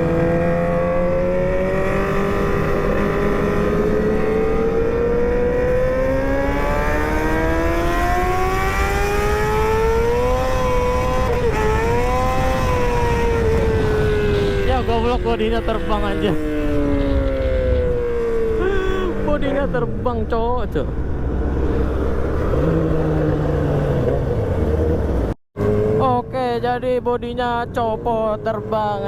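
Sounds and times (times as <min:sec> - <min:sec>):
wind rumble: 0:00.0 - 0:25.9
motorcycle engine revving high: 0:00.0 - 0:26.6
road noise: 0:00.0 - 0:29.0.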